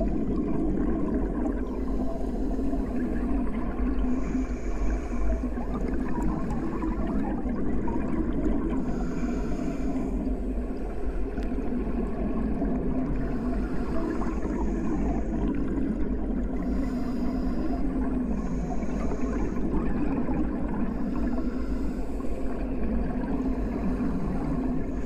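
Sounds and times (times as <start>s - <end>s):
underwater water noise: 0.0s - 25.0s.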